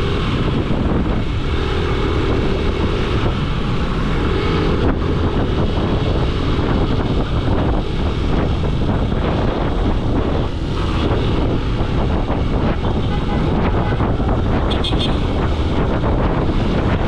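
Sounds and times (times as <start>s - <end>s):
vehicle engine and road noise: 0.0s - 17.0s
wind buffeting microphone: 0.0s - 17.0s.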